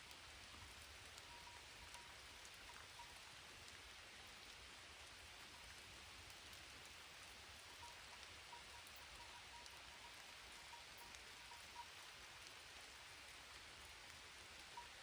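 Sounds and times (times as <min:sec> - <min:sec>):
light rain falling: 0:00.0 - 0:15.0
raindrop ticks: 0:00.0 - 0:15.0.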